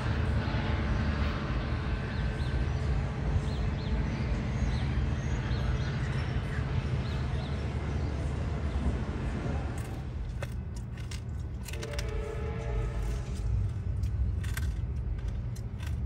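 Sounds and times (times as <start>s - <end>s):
diesel train rumbling: 0.0s - 16.0s.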